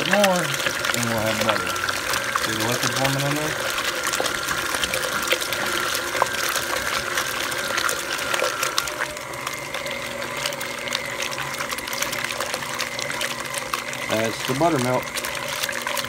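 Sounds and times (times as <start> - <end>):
buttermilk sloshing in bowl: 0.0 - 16.0
mixer motor whine: 0.0 - 16.0.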